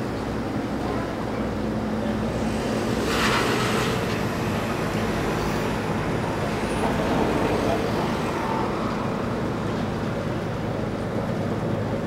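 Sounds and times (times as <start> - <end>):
ship engines rumbling: 0.0 - 12.0.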